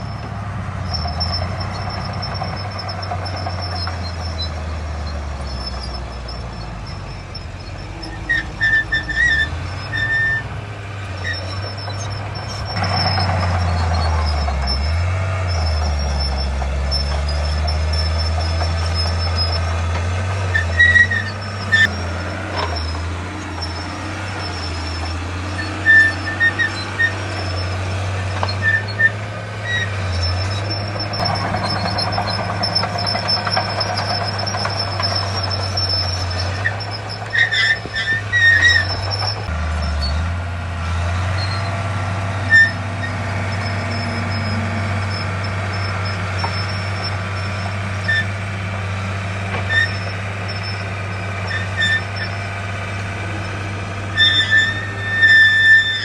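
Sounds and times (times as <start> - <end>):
high-pitched squeaks: 0.0 - 40.4, 41.1 - 56.0
diesel machinery droning: 0.0 - 56.0.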